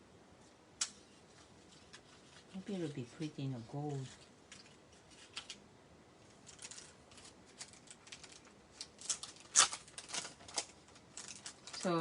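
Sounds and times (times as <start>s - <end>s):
paper being handled: 1.0s - 5.6s, 6.2s - 12.0s.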